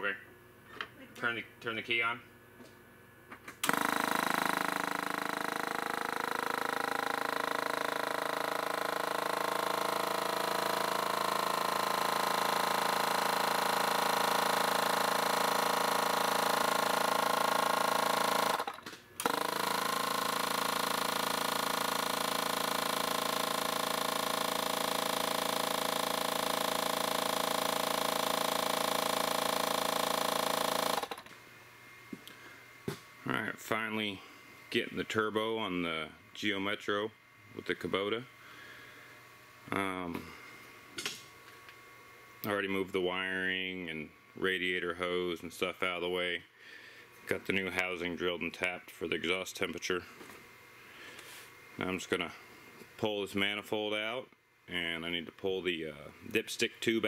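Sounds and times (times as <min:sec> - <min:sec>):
electric vacuum pump running: 0:01.9 - 0:57.0.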